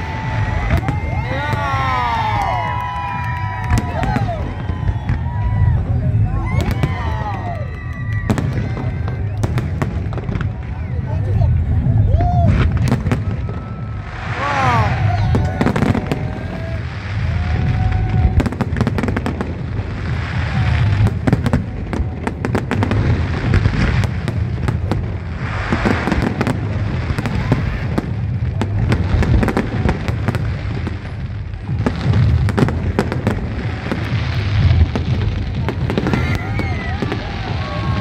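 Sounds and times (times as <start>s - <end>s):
fireworks whistles: 0.0s - 11.2s, 11.8s - 38.0s
fireworks bangs and crackling: 0.0s - 38.0s
low rumble: 0.0s - 38.0s.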